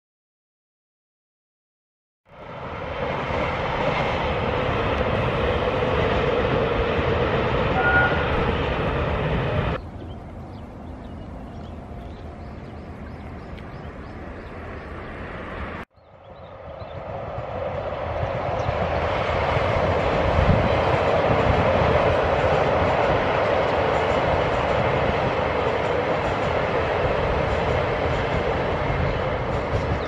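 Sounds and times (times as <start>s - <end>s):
electric train approaching: 2.3s - 30.0s.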